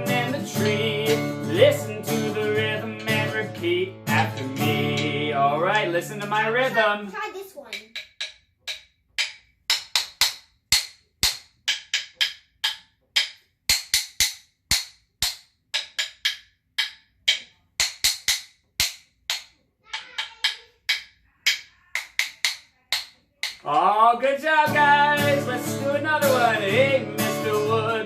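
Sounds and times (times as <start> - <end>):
wooden rhythm sticks knocking: 0.0 - 28.0.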